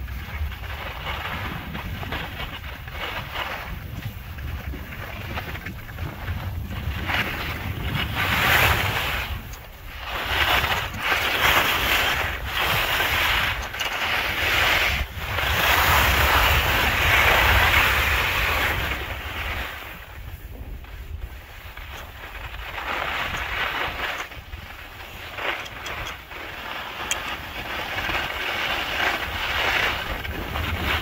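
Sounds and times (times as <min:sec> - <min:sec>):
skis carving packed snow: 0:00.0 - 0:31.0
wind rumble on microphone: 0:00.0 - 0:31.0.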